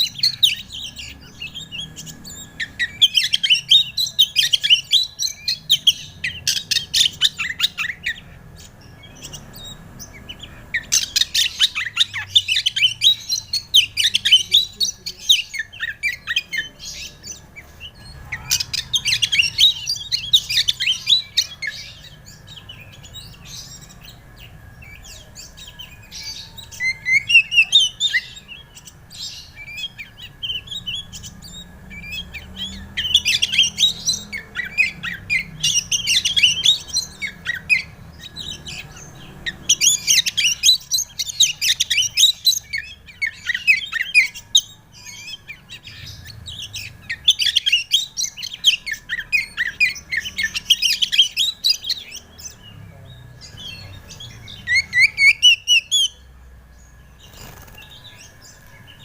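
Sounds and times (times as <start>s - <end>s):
bird singing chirps and whistles: 0.0s - 59.0s.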